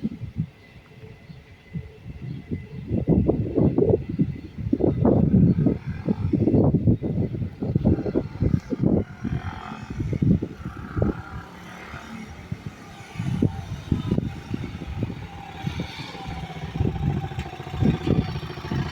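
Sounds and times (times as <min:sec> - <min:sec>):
motorcycle engine rumbling: 0:00.0 - 0:18.9.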